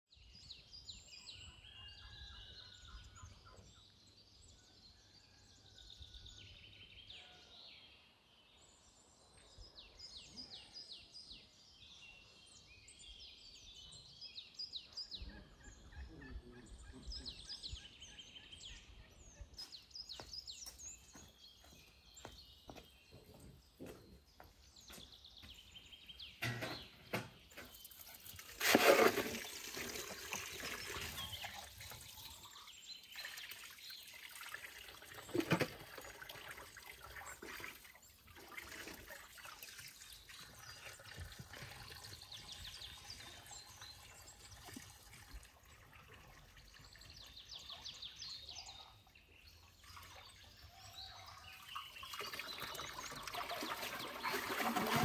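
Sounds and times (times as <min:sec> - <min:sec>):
small birds chirping: 0:05.9 - 0:55.0.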